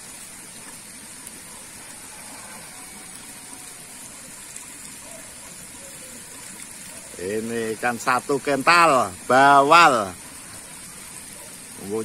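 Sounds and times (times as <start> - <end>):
water pouring into pond: 0.0 - 12.0.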